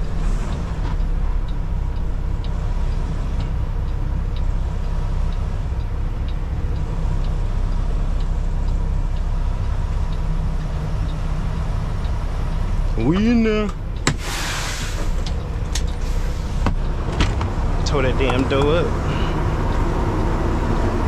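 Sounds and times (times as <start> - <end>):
light ticking: 0.0 - 14.2, 15.0 - 21.0
diesel truck engine idling: 0.0 - 21.0.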